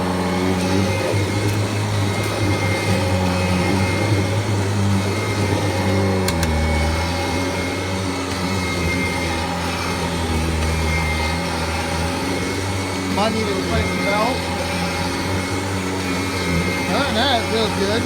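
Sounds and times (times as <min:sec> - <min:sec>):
vacuum cleaner motor humming: 0:00.0 - 0:18.0.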